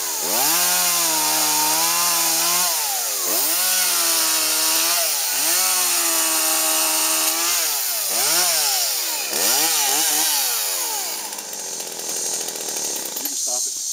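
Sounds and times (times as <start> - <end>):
chainsaw engine revving: 0.0 - 13.9.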